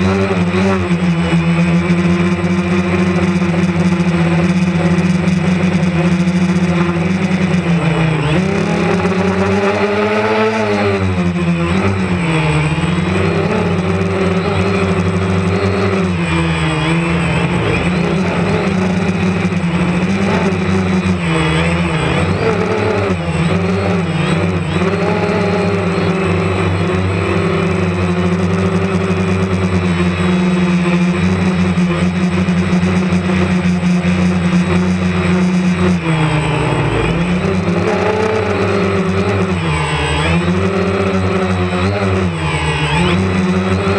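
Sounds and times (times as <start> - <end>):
drone propellers whirring: 0.0 - 43.9.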